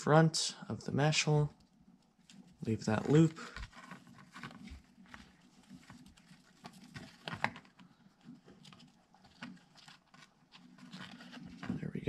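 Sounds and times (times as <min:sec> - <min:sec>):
light clicks and rustles: 0:01.6 - 0:12.0
string threading through plastic: 0:02.1 - 0:11.9.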